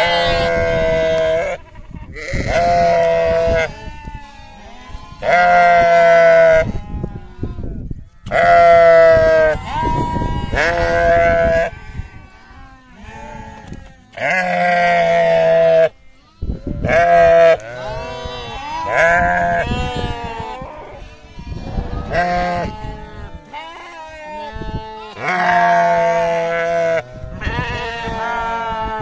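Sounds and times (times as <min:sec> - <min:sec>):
sheep bleating: 0:00.0 - 0:29.0.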